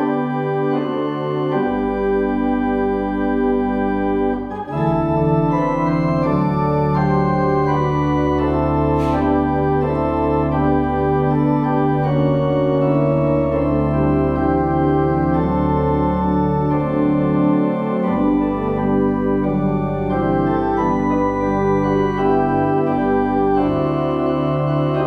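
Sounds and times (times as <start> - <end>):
church organ chords: 0.0 - 25.0.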